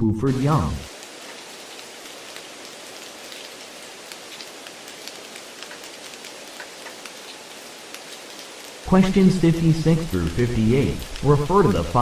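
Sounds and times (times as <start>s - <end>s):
rain-like hiss: 0.2s - 12.0s.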